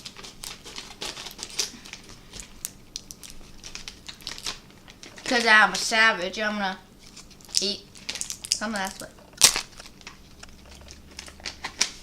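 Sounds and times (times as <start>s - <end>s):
snack packaging crinkling: 0.0s - 5.9s, 7.0s - 12.0s.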